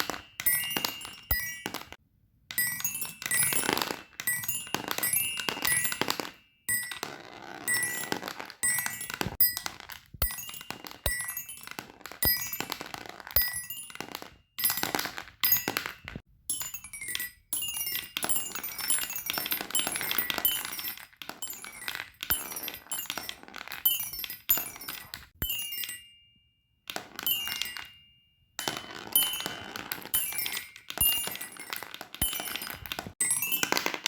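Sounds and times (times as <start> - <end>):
fidget toys clicking and clinking: 0.0 - 26.3, 26.9 - 34.0.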